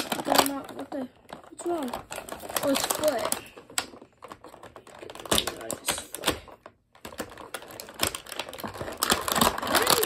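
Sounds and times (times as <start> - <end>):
plastic tray crackling and clicking: 0.0 - 10.0.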